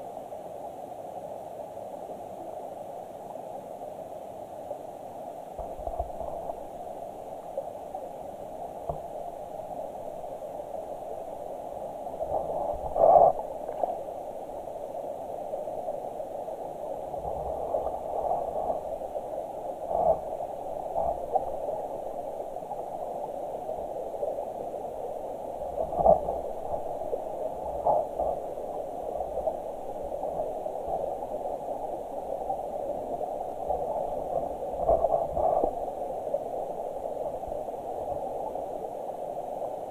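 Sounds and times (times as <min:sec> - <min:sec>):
muffled underwater stream rush: 0:00.0 - 0:39.9.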